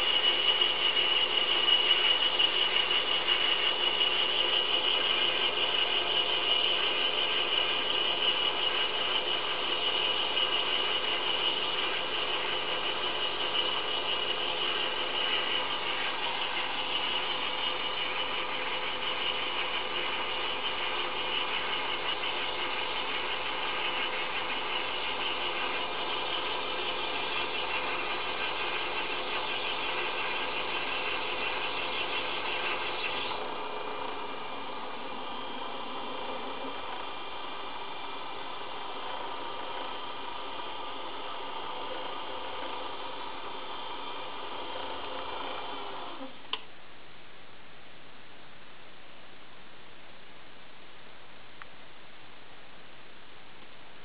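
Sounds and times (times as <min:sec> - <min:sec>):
lathe whirring: 0:00.0 - 0:46.7.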